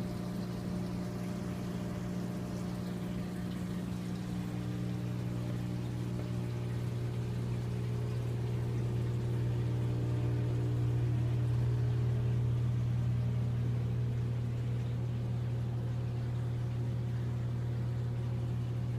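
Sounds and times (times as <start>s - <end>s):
aquarium pump humming: 0.0s - 18.9s.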